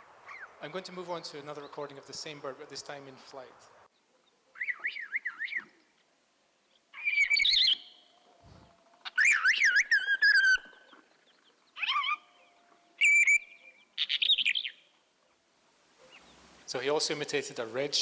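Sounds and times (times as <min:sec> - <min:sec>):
bird warbling song: 0:00.0 - 0:05.9, 0:06.7 - 0:15.4, 0:16.0 - 0:16.7.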